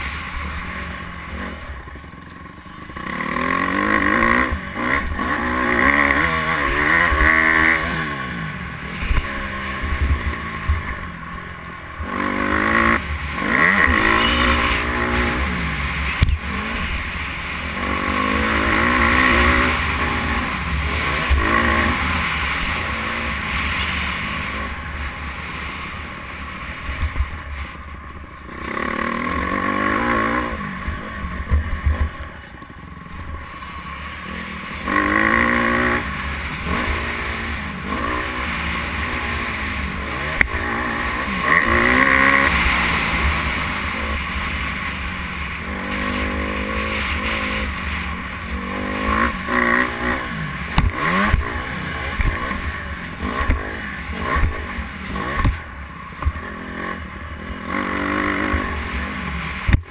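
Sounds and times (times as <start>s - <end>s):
dirt bike engine revving: 0.0s - 27.7s, 28.4s - 59.9s.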